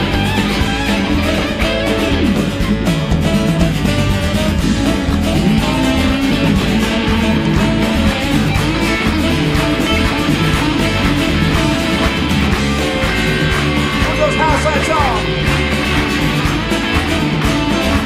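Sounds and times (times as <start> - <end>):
rockabilly band playing: 0.0 - 18.0.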